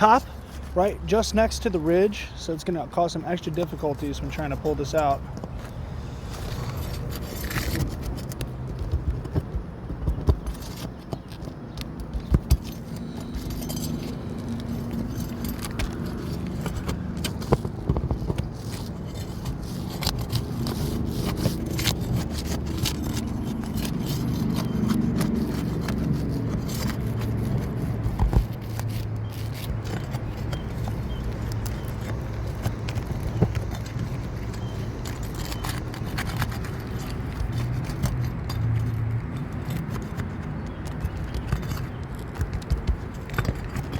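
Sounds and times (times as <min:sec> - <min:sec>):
roofing tool scraping shingles: 0:00.0 - 0:43.9.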